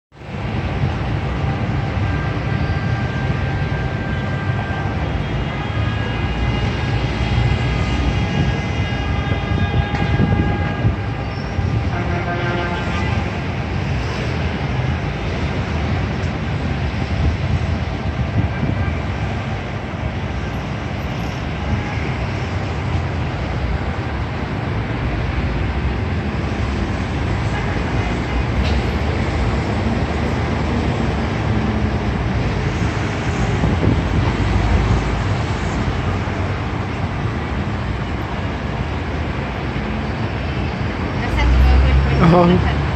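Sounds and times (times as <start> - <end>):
street traffic rumble: 0.1 - 42.9.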